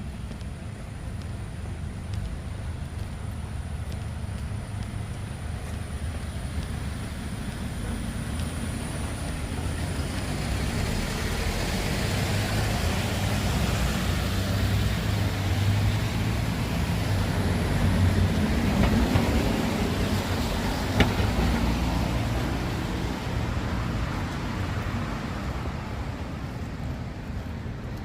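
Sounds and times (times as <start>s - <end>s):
street noise hiss: 0.0s - 28.0s
vehicle engine rumbling: 0.0s - 28.0s.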